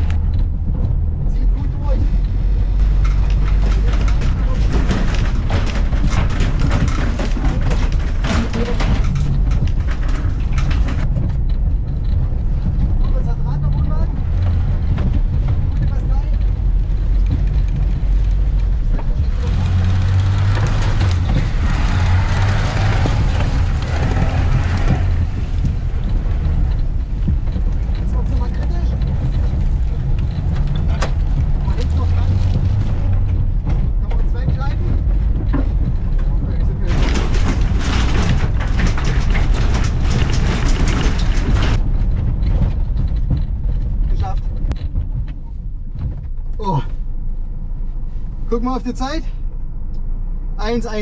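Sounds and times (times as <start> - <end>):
tyres crackling on loose ground: 0.0 - 47.8
offroad driving noise: 0.0 - 51.0
car engine pulling under load: 2.3 - 44.1.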